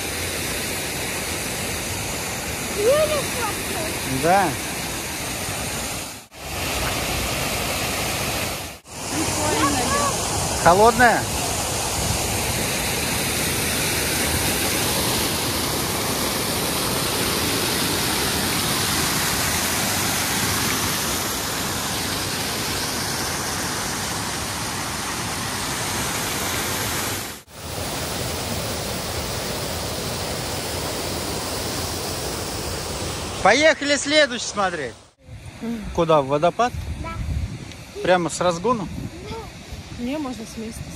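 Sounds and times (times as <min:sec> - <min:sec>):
waterfall rushing: 0:00.0 - 0:36.6, 0:37.8 - 0:40.7.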